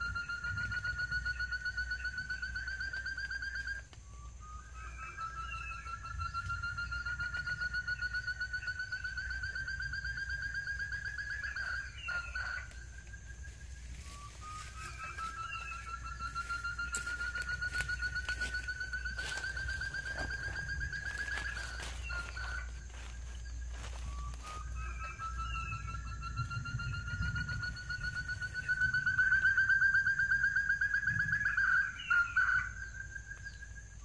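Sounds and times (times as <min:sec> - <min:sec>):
bird trill calling: 0:00.0 - 0:34.0.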